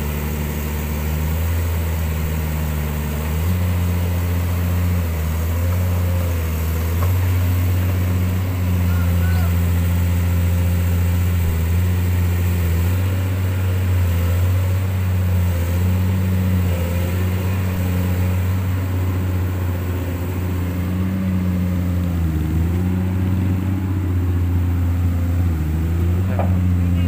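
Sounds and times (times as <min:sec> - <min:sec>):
excavator diesel engines humming: 0:00.0 - 0:27.0.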